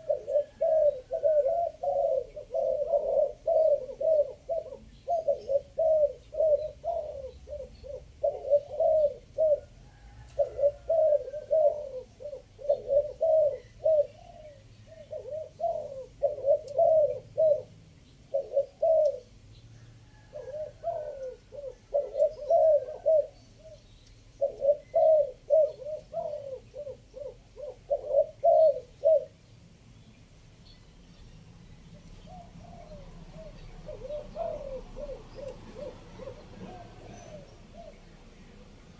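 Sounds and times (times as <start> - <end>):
dove cooing: 0.0 - 29.4, 31.9 - 38.9.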